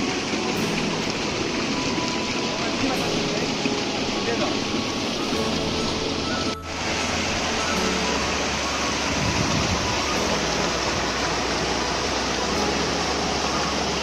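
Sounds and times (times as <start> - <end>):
water rushing over stones: 0.0 - 14.0.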